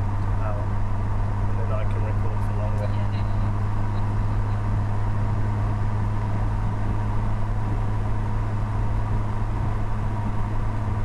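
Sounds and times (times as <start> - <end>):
car engine drone and road noise: 0.0 - 11.0.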